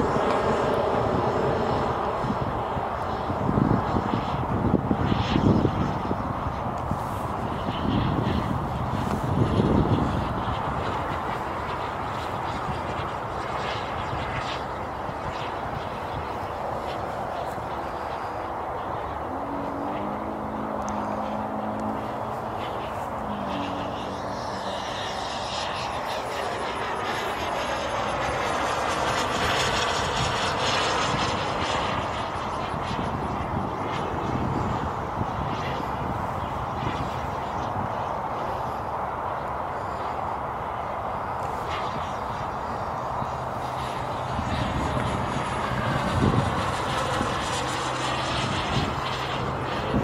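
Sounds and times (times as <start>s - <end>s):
model jet turbine whoosh: 0.0s - 50.0s.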